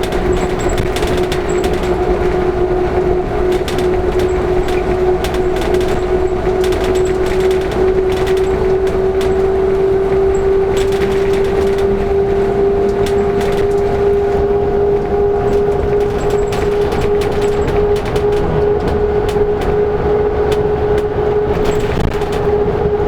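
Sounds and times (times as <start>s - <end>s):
bus drivetrain whine: 0.0s - 23.0s
cabin rattles and clicks: 0.0s - 23.0s
road rumble: 0.0s - 23.0s.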